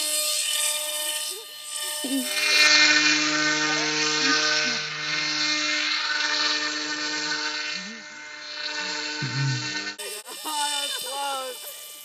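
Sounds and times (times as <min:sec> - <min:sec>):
model jet motor whining: 0:00.0 - 0:12.0.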